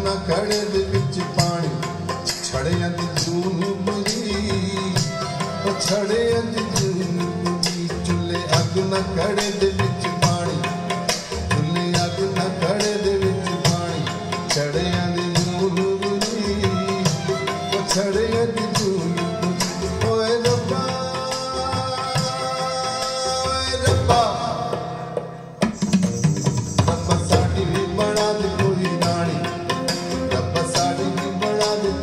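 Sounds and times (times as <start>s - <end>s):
tabla rhythm: 0.0s - 32.0s.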